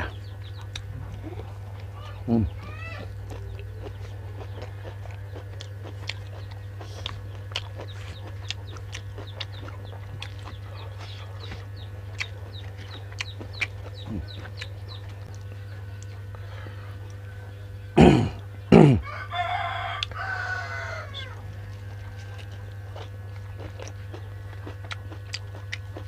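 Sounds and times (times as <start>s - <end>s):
low hum: 0.0s - 26.0s
chewing mouth sounds: 0.4s - 17.4s, 21.5s - 26.0s.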